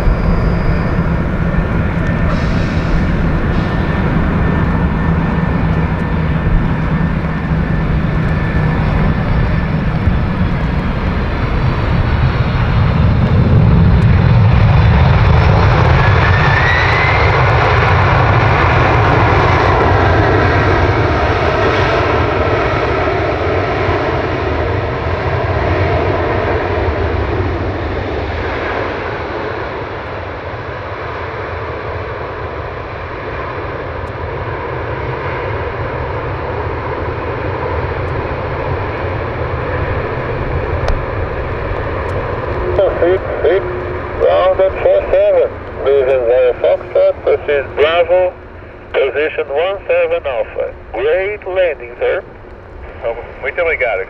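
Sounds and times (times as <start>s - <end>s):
jet engine noise: 0.0s - 54.0s
rising engine whine: 0.0s - 54.0s.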